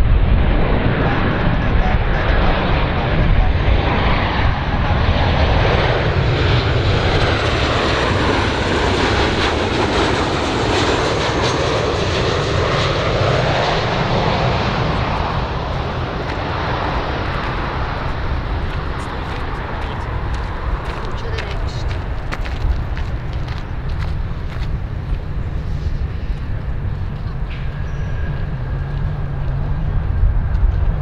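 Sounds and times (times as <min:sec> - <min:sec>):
jet airliner engine noise: 0:00.0 - 0:31.0.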